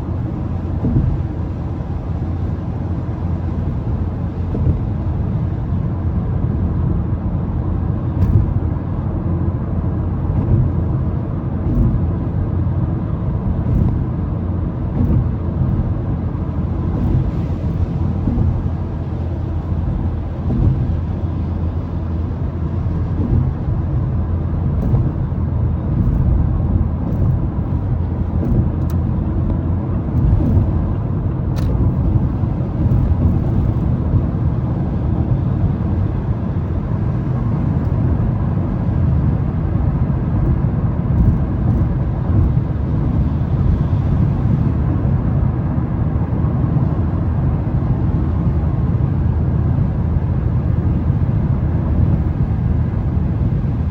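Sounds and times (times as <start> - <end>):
tyre and road noise: 0.0 - 53.9.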